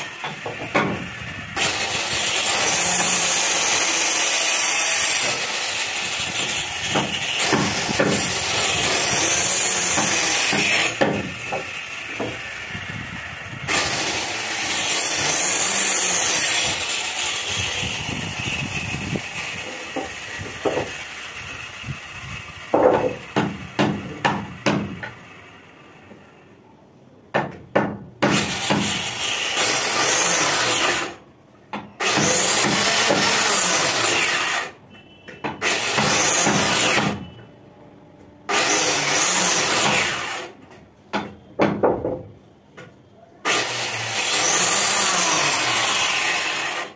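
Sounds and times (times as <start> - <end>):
circular saw cutting wood: 0.0 - 26.2, 28.2 - 31.2, 32.0 - 34.8, 35.6 - 37.3, 38.5 - 40.6, 43.5 - 46.9.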